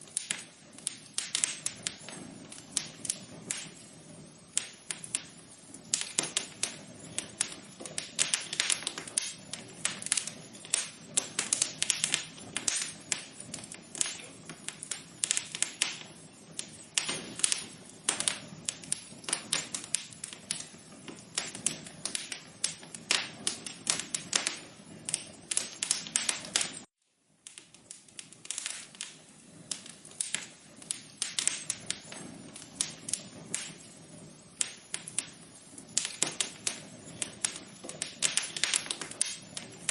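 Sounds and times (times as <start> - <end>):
soft fire hiss: 0.0 - 39.9
wood fire popping and snapping: 0.0 - 39.9.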